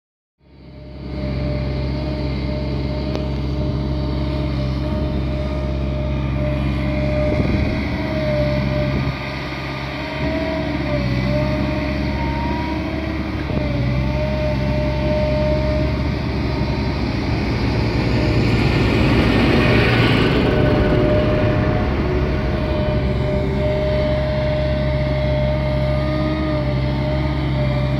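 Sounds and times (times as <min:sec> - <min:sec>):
machine humming: 0:00.6 - 0:27.9.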